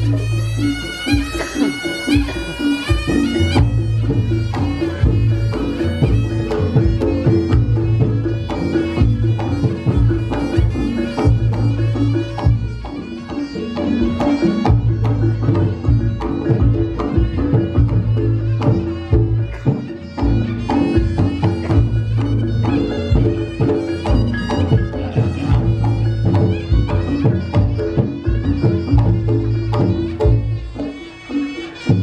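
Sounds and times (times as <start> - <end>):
hand drum strokes: 0.0 - 32.0
nasal wavering shawm melody: 0.0 - 32.0.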